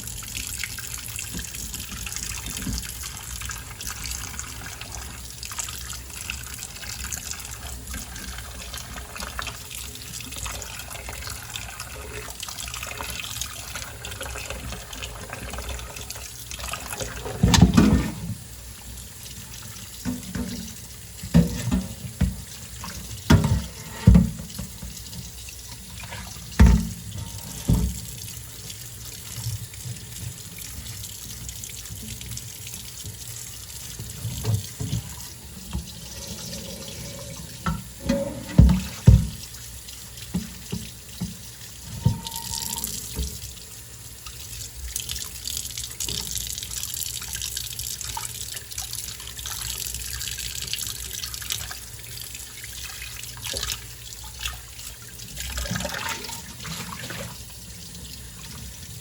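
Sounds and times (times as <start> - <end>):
tap water running into sink: 0.0 - 59.0.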